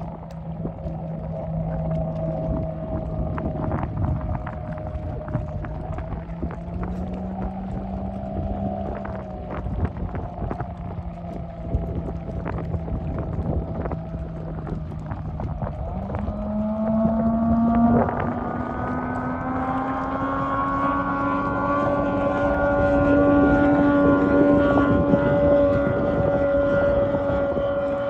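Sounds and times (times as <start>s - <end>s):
outboard motor running at speed: 0.0s - 28.0s
wind buffeting microphone: 0.0s - 28.0s.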